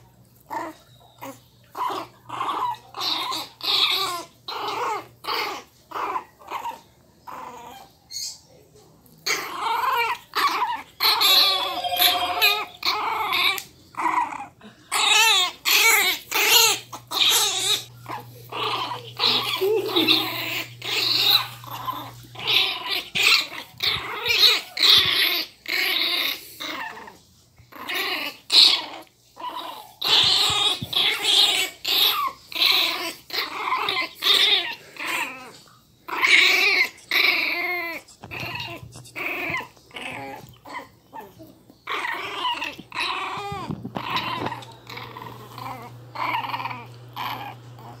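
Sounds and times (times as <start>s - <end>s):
puppies growling and barking: 0.0s - 8.4s, 9.0s - 48.0s.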